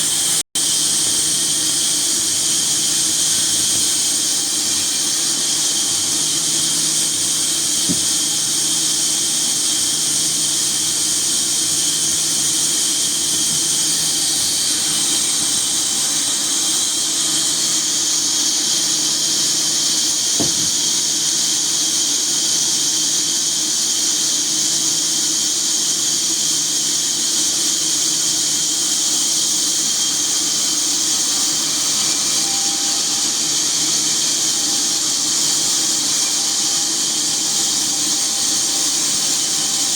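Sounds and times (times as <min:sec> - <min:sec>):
sawmill machinery hissing and whining: 0:00.0 - 0:39.9.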